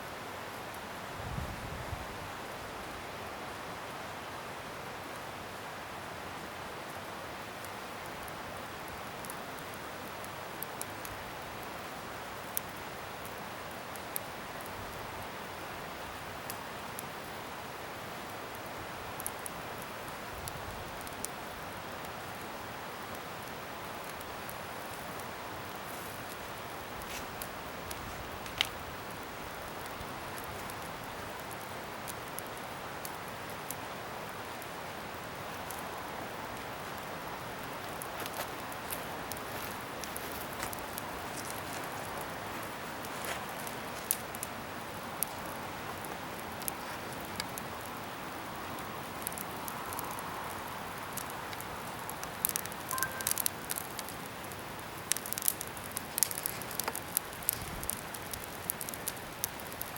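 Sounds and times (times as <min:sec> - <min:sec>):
bonfire hissing: 0:00.1 - 0:59.9
fire crackling and popping: 0:05.0 - 0:59.9.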